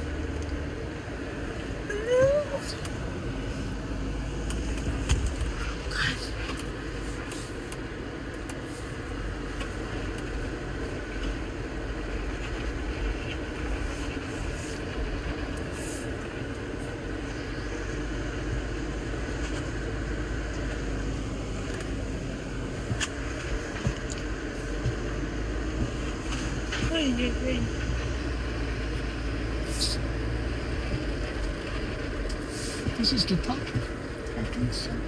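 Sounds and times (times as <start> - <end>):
vehicle engine rumble: 0.0 - 35.0.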